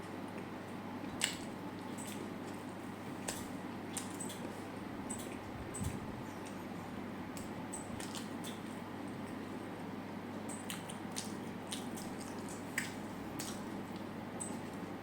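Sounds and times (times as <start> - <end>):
person chewing food: 0.3 - 9.6, 10.5 - 15.0.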